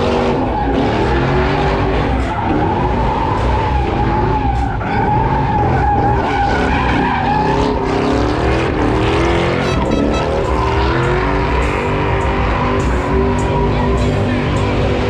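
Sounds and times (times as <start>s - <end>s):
car engine revving high: 0.0s - 15.0s
tires squealing: 0.0s - 15.0s.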